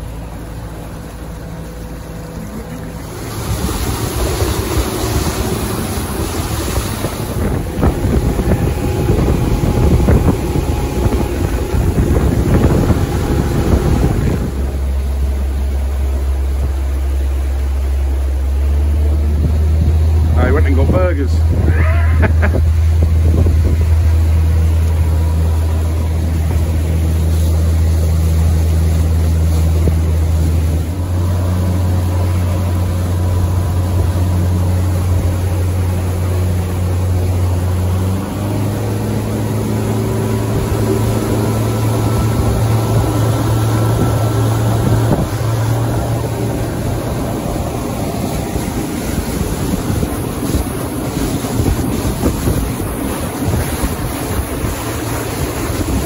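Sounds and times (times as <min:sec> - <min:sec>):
outboard motor drone: 0:00.0 - 0:56.0
water rushing past hull: 0:00.0 - 0:56.0
wind on microphone: 0:03.0 - 0:56.0.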